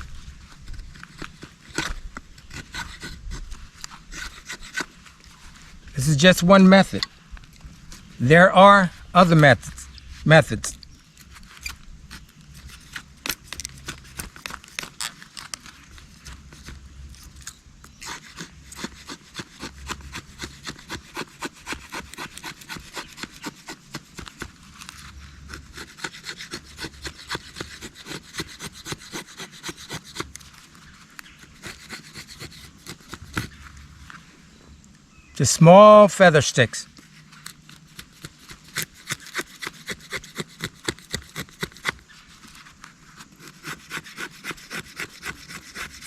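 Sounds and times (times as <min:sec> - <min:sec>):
knife scraping wood: 0:00.0 - 0:08.2, 0:09.2 - 0:34.2, 0:36.9 - 0:46.0.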